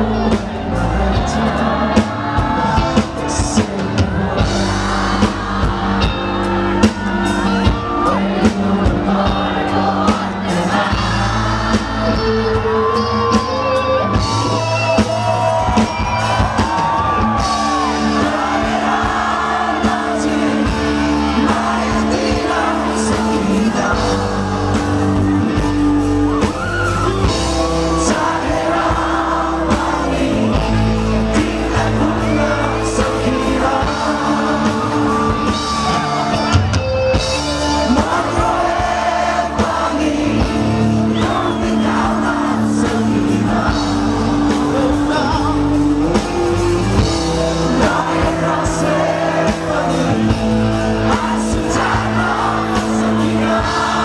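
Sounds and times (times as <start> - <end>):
man singing into microphone: 0.0 - 6.6, 7.6 - 15.7, 17.0 - 25.6, 27.6 - 36.2, 37.7 - 54.0
drums: 0.0 - 54.0
electric guitar: 0.0 - 54.0.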